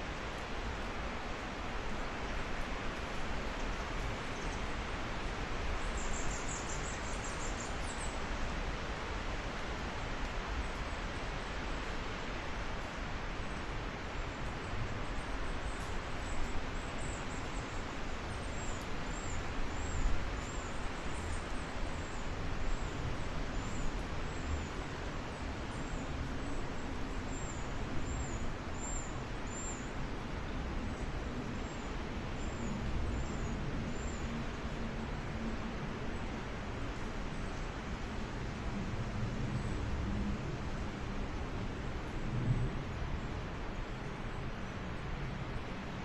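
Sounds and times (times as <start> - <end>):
low wind rumble: 0.0 - 46.0
wind rustling leaves: 0.0 - 46.0.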